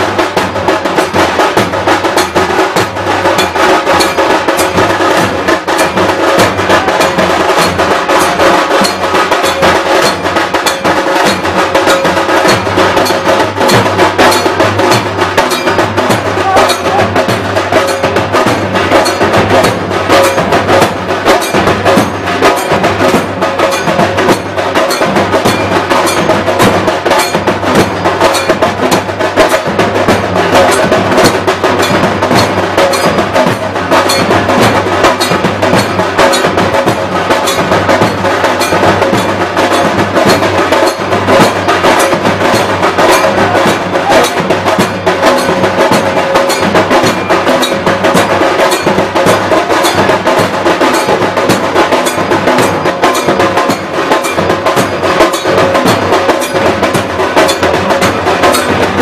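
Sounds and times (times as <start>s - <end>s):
fast traditional drumming: 0.0s - 59.0s.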